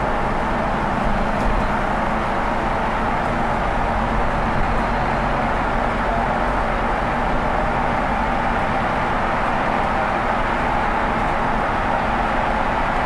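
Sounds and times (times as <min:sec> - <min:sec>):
city bus engine droning: 0:00.0 - 0:13.0.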